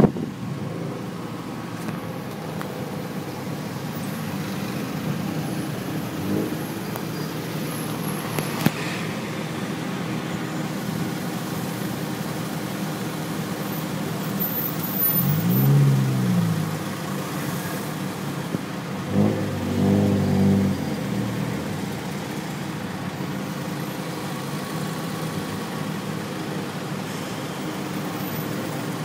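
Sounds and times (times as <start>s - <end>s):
tuk tuk engine revving: 0.0s - 29.0s.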